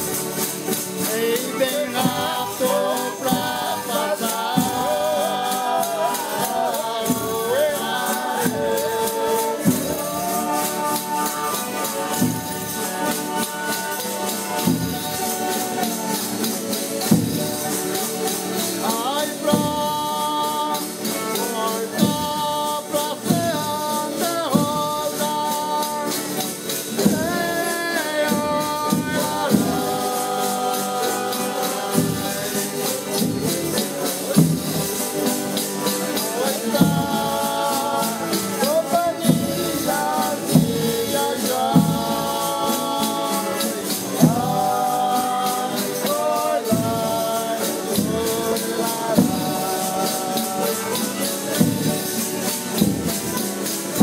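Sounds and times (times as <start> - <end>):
group singing in harmony: 0.0 - 54.0
strummed guitars: 0.0 - 54.0
tambourine jingling: 0.0 - 54.0.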